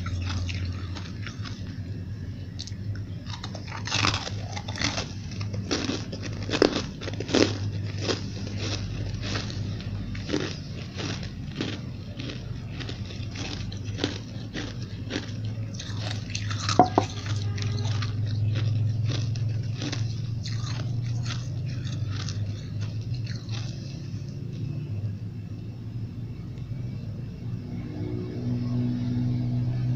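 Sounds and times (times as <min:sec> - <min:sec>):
ice being chewed: 0:00.0 - 0:24.7
steady low hum: 0:00.0 - 0:29.9.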